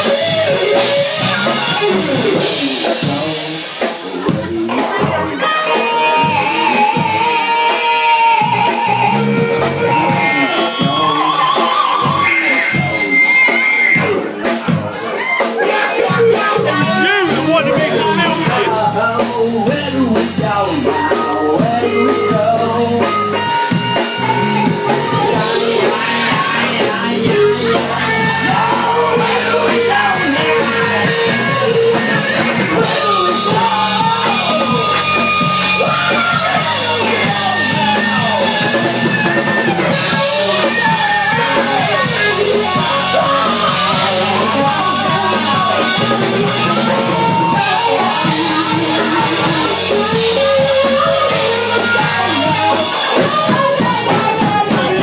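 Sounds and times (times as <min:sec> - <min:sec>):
drum kit: 0:00.0 - 0:55.0
electric guitars: 0:00.0 - 0:55.0
person singing: 0:00.0 - 0:55.0.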